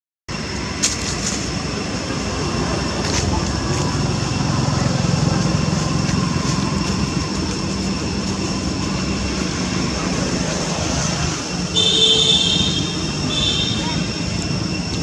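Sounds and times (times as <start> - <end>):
high insect drone: 0.3 - 15.0
low engine rumble: 0.3 - 15.0.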